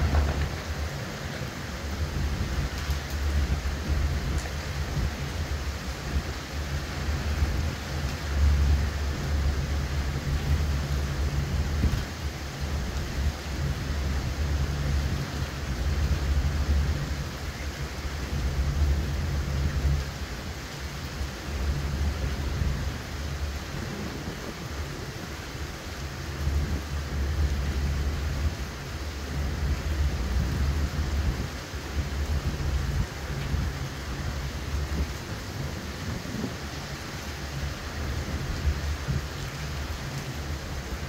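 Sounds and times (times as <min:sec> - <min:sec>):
heavy rain hiss: 0:00.0 - 0:41.0
wind gusts rumbling: 0:00.0 - 0:41.0.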